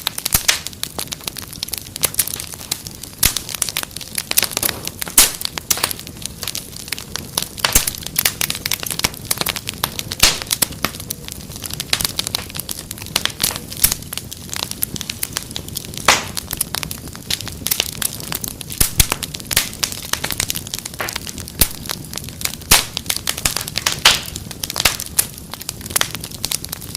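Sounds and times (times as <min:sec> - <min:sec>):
fireplace fire crackling: 0:00.0 - 0:26.9.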